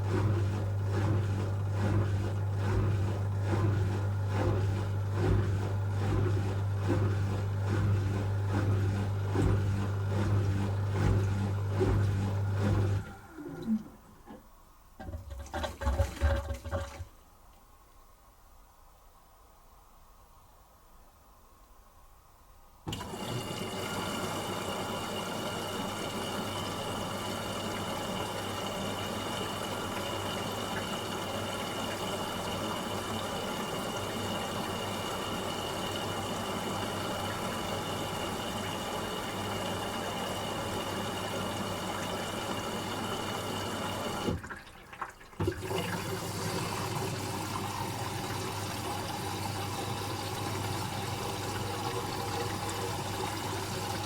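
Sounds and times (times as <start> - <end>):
water rushing into washing machine: 0.0 - 17.3, 22.9 - 54.0.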